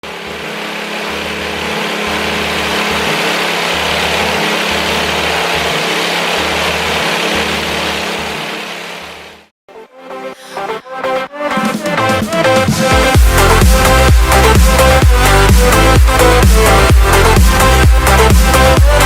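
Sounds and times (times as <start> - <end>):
petrol engine running: 0.0 - 9.5, 11.7 - 19.0.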